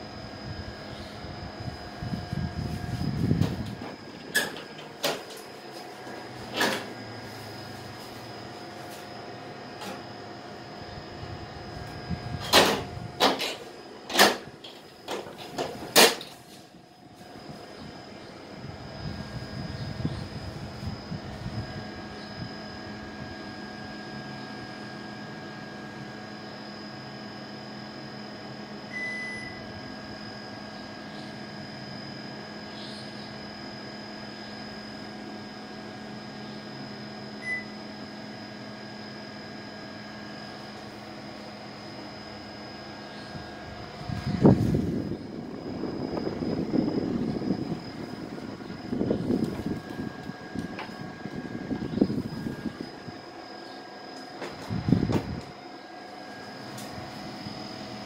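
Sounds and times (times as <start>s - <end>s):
air conditioner beep: 0.0s - 58.0s
air conditioner hum: 0.0s - 58.0s.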